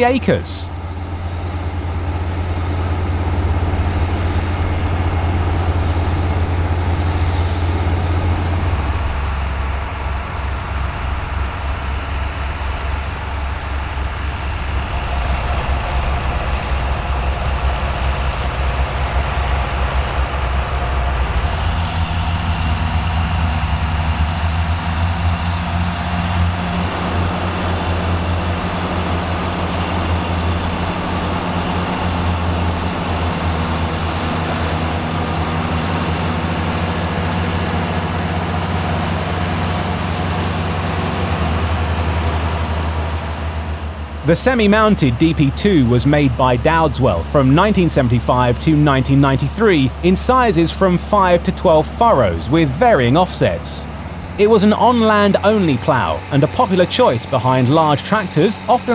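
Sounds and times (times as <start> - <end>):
tractor diesel engines under load: 0.0 - 58.9.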